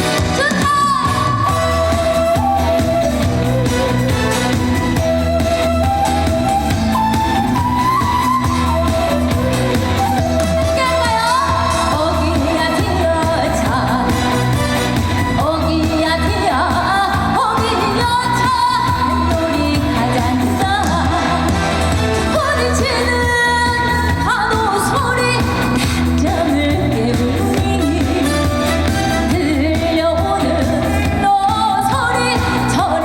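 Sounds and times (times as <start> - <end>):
woman singing: 0.0 - 33.0.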